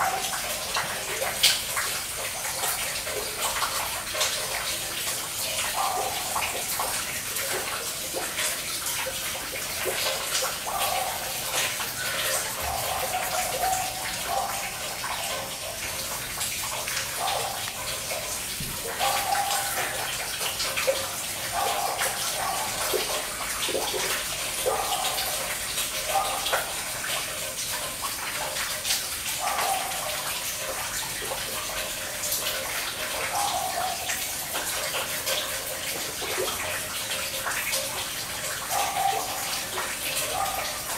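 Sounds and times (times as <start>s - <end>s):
running and dripping water: 0.0s - 40.9s.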